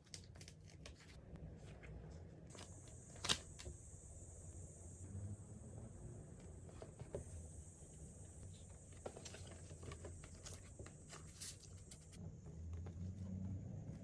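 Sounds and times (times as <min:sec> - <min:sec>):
low steady hum: 0:00.6 - 0:14.0.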